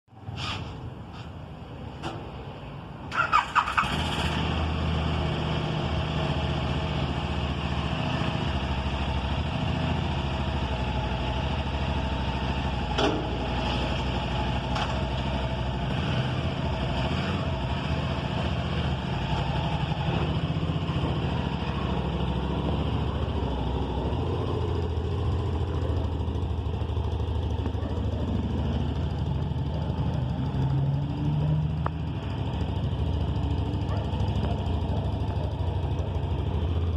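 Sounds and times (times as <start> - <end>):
motorcycle engine starting and running: 1.9 - 36.9.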